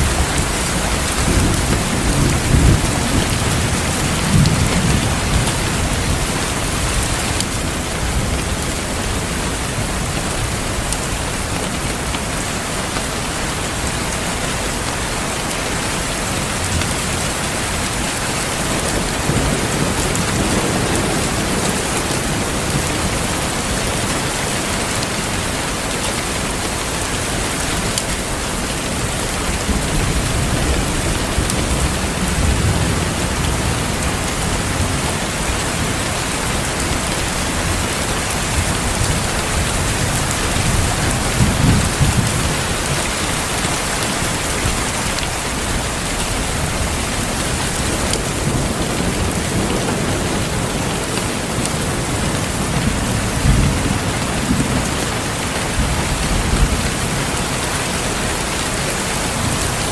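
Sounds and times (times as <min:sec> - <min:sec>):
thunder rumbling: 0:00.0 - 0:12.0, 0:16.7 - 0:57.6
heavy rain falling: 0:00.0 - 0:59.9.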